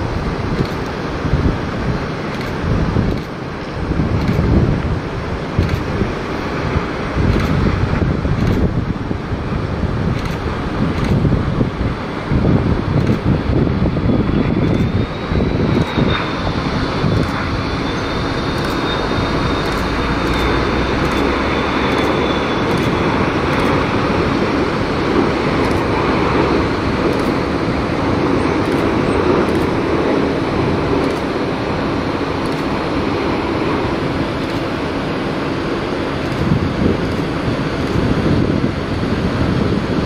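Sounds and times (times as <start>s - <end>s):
high jet engine whine: 0.0s - 40.0s
jet engines rushing noise: 0.0s - 40.0s.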